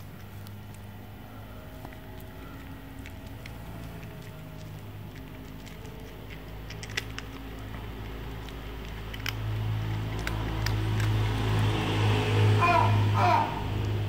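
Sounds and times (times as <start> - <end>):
cat crunching dry kibble: 0.0 - 12.4
low steady hum: 0.0 - 14.0.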